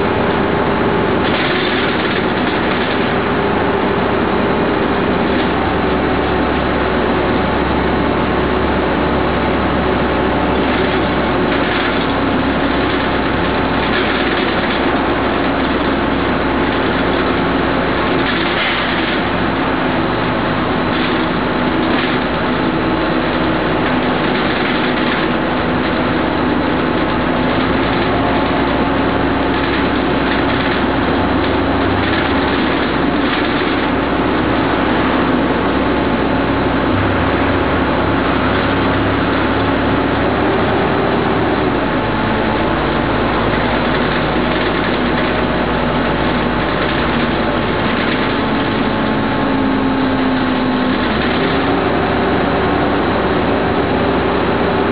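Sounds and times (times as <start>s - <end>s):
bus diesel engine drone: 0.0s - 54.9s.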